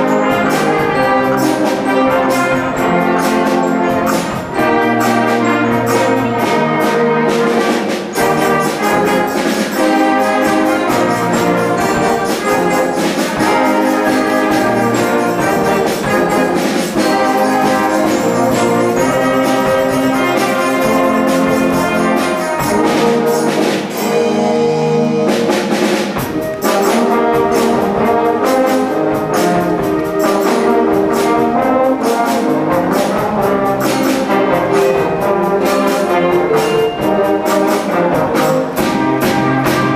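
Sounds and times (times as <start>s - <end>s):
concert band playing: 0.0s - 39.9s
drum and percussion strikes: 0.0s - 39.9s.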